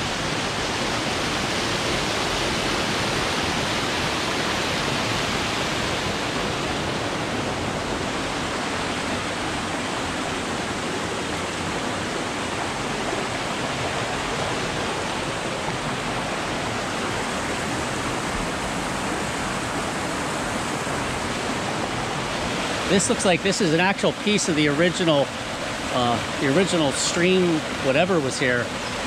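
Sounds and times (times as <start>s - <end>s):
creek water flowing over boulders: 0.0s - 29.0s.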